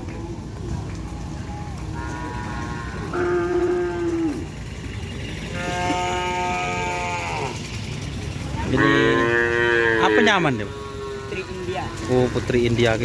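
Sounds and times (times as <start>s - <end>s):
calves bawling: 2.0s - 12.9s.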